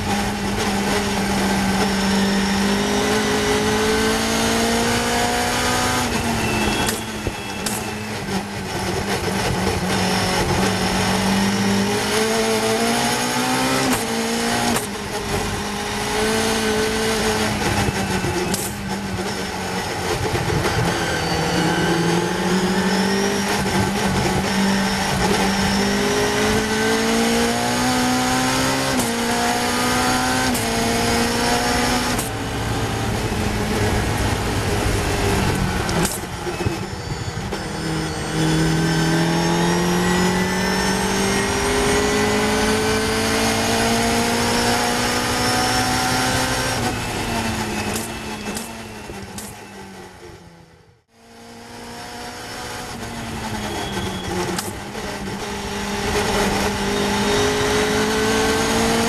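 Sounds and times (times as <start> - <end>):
racing car engine revving: 0.0 - 49.4, 51.1 - 59.0.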